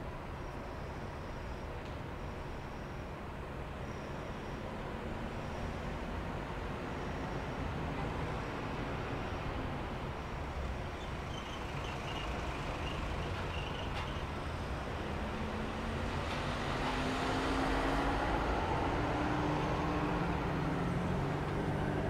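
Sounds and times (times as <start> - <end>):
city street traffic rumble: 0.0 - 22.0.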